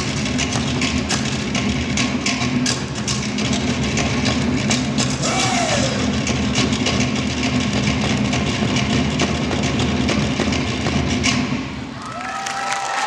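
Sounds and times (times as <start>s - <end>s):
steady bass drum beat: 0.0s - 11.4s
wooden slit drums: 0.0s - 11.9s.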